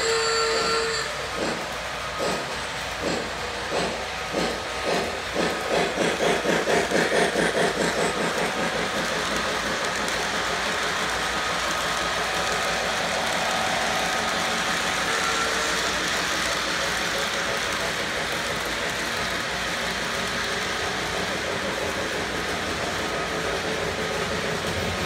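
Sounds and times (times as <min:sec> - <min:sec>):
model steam locomotive chuffing: 0:00.0 - 0:25.0.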